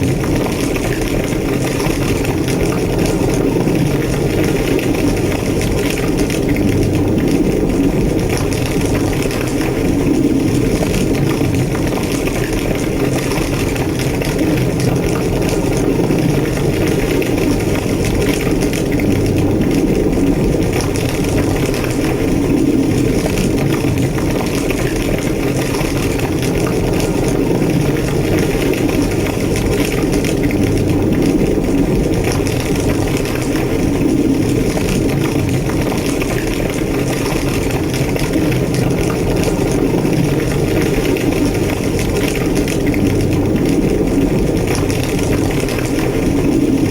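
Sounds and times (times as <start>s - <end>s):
fire crackling: 0.0s - 46.9s
fire roaring: 0.0s - 46.9s.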